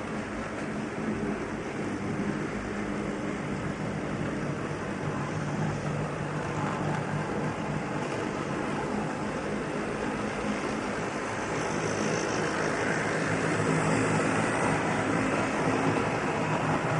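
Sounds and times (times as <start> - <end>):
model train humming on track: 0.0 - 16.9.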